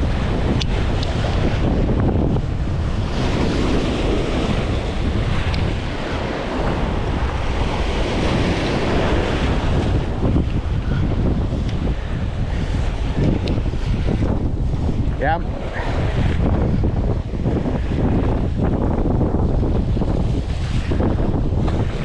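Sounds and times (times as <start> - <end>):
waves washing against rocks: 0.0 - 22.0
wind buffeting microphone: 0.0 - 22.0.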